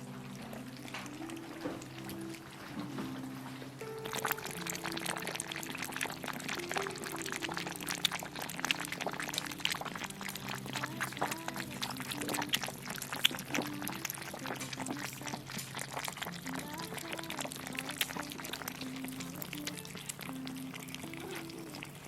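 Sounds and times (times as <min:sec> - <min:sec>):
background music with held notes: 0:00.0 - 0:22.0
kittens chewing wetly: 0:00.0 - 0:22.0.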